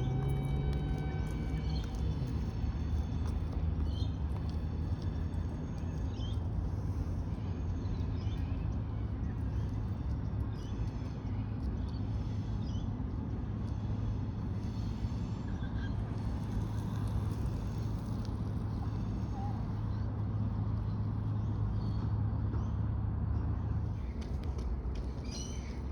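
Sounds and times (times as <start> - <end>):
low rumble: 0.0 - 25.9.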